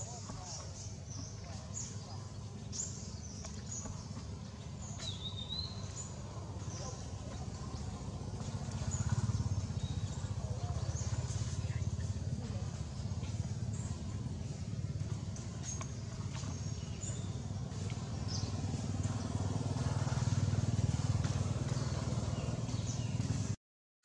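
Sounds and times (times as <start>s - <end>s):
steady low rumble: 0.0s - 23.6s.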